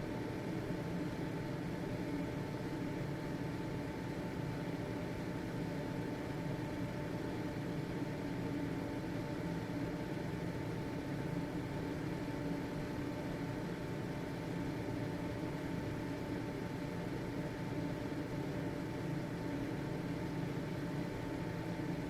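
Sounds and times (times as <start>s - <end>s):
ventilation fan whirring: 0.0s - 22.0s.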